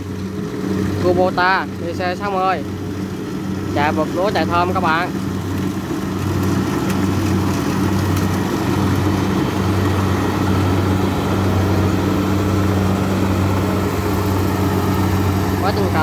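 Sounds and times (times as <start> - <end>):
combine harvester engine humming: 0.0 - 16.0.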